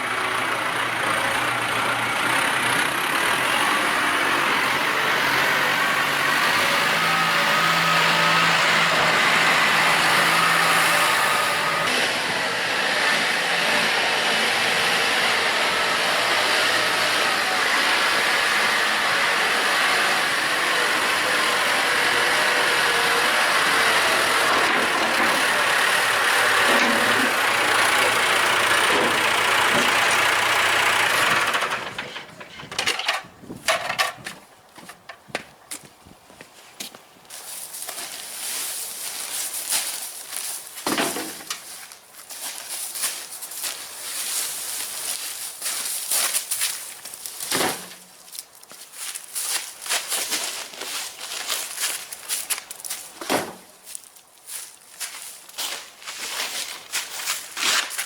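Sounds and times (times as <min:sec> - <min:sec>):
tractor engine running: 0:00.0 - 0:36.4, 0:37.2 - 0:48.8.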